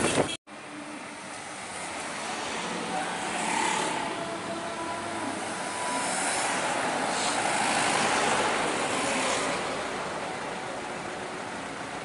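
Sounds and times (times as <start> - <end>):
passing vehicle engine and tyres: 0.0 - 12.0.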